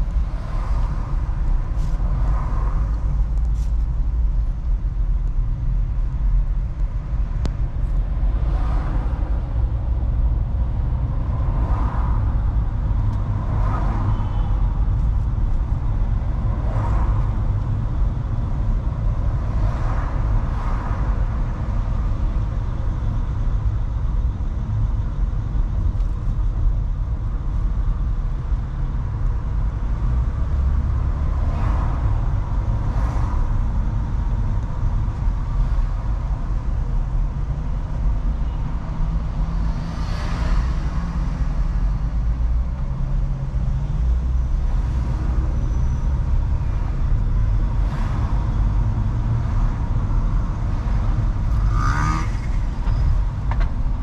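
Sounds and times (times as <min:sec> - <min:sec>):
car road and engine rumble: 0:00.0 - 0:54.0
passing traffic: 0:00.0 - 0:54.0.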